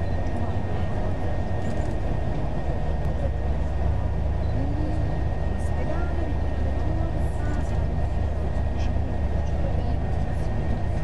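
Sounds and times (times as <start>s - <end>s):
vehicle driving rumble: 0.0s - 11.0s.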